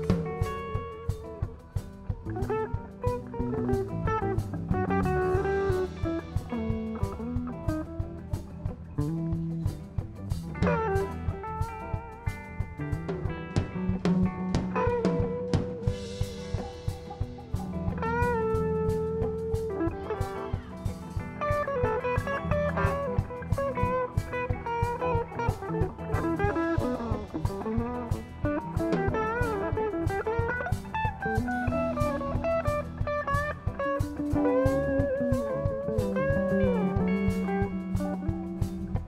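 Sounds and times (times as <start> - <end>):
bass guitar: 0.0 - 39.0
drums: 0.0 - 39.0
electric guitars: 0.0 - 39.0.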